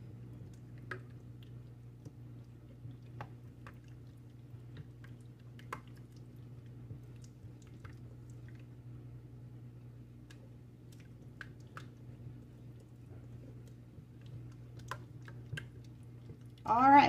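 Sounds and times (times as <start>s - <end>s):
spatula squishing sauce: 0.0s - 8.8s, 10.2s - 16.7s.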